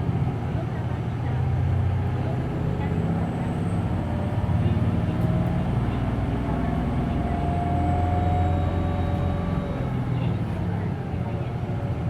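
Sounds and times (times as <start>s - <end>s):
bus drivetrain drone: 0.0s - 12.0s.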